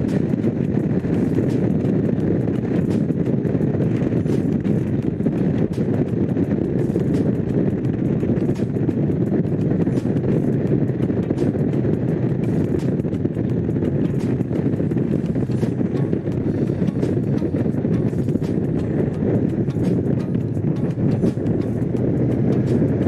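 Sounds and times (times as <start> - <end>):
motorcycle engine cruising: 0.0 - 23.0
wind buffeting microphone: 0.0 - 23.0.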